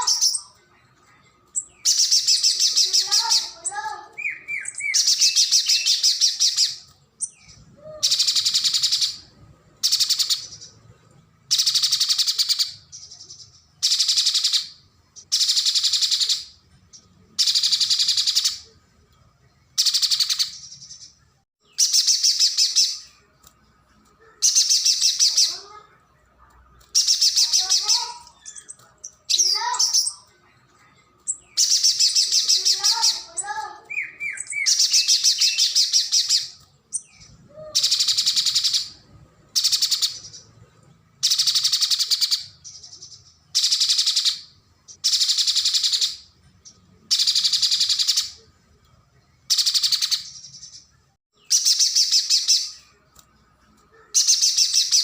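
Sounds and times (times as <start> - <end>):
bird singing trilled phrases: 0.0 - 0.7, 1.5 - 10.8, 11.5 - 18.7, 19.8 - 23.3, 24.4 - 26.0, 26.8 - 30.3, 30.9 - 40.5, 41.2 - 46.3, 47.1 - 48.4, 49.4 - 53.0, 54.1 - 55.0.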